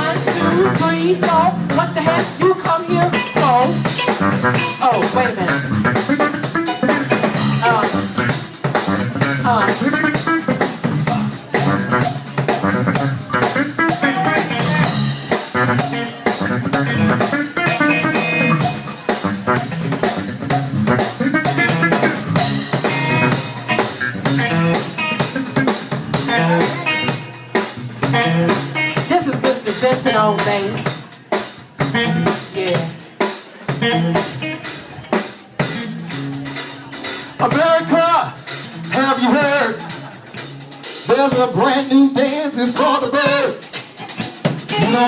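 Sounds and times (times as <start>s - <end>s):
bass guitar: 0.0s - 45.0s
drum kit beat: 0.0s - 45.0s
electric guitar: 0.0s - 45.0s.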